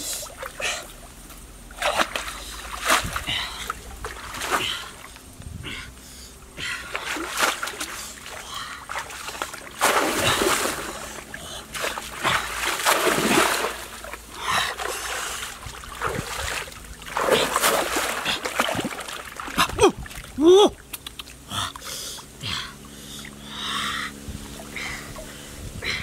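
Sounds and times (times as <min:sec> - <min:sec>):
person wading in water: 0:00.0 - 0:26.0
water splashing and sloshing: 0:00.0 - 0:26.0.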